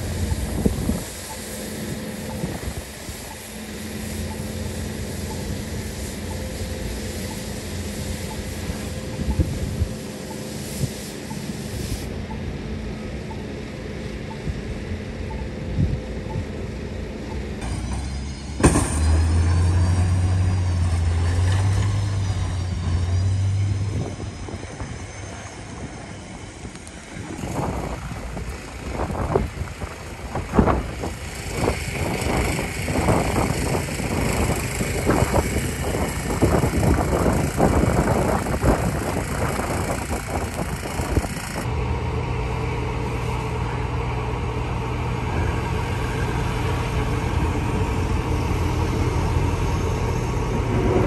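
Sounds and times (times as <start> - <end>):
snow plow engine drone: 0.0 - 51.0
tractor engine hum: 0.0 - 51.0.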